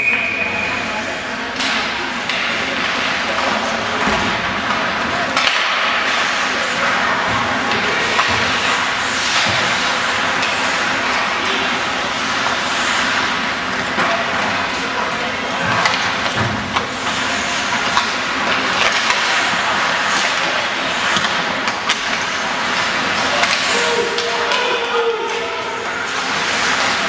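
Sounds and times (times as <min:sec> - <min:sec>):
arena noise: 0:00.0 - 0:27.0
hockey sticks and puck clacking: 0:01.5 - 0:27.0
skates scraping ice: 0:01.6 - 0:27.0.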